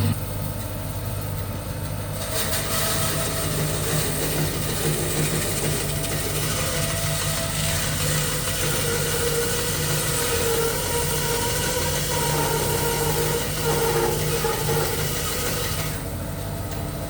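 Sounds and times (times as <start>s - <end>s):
bandsaw running: 2.2s - 16.2s.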